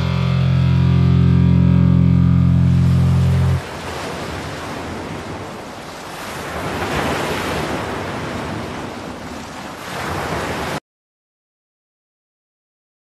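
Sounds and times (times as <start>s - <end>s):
waves breaking: 0.0s - 10.8s.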